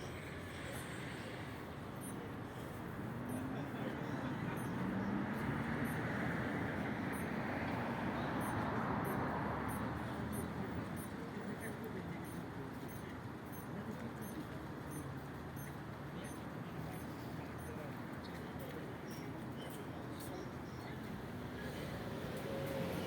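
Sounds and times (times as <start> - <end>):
distant traffic rumble: 0.0 - 23.0.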